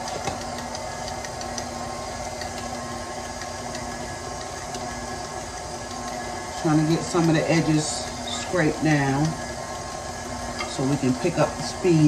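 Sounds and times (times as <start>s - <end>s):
stand mixer running: 0.0s - 12.0s.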